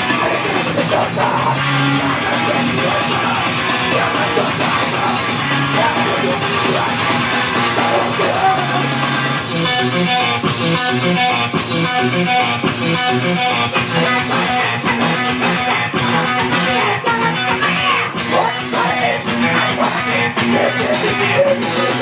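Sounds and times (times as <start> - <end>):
live rock band: 0.0 - 22.0.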